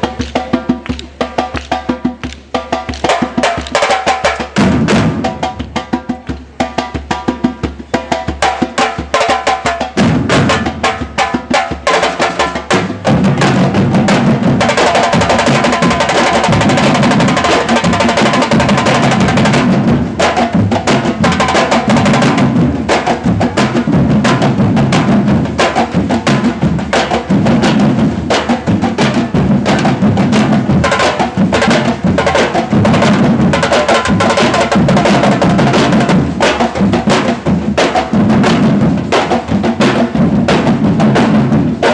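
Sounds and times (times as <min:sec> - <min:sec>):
bass drums: 0:00.0 - 0:41.9
drum band playing: 0:00.0 - 0:41.9
sharp percussion hits: 0:08.2 - 0:41.9.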